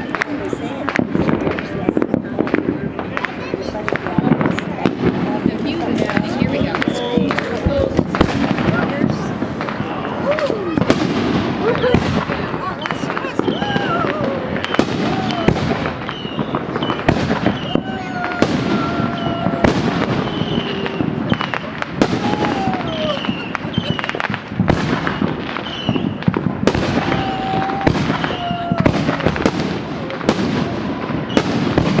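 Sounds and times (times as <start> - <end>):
firework whistling: 0.0 - 32.0
fireworks bangs and crackles: 0.0 - 32.0.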